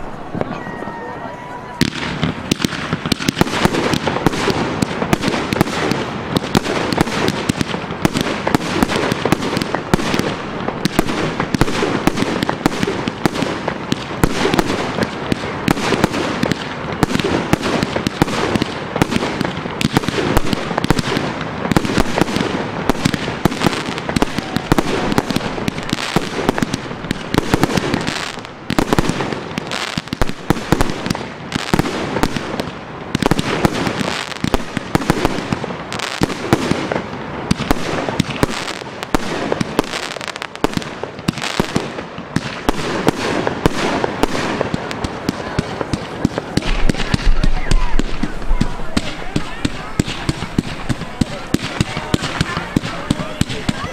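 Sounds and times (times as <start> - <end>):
fireworks bangs and crackle: 0.0 - 53.9.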